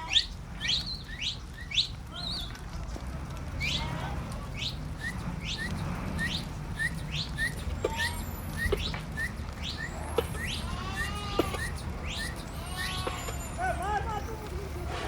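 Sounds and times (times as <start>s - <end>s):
birds chirping and calling: 0.0s - 2.6s, 3.6s - 14.8s.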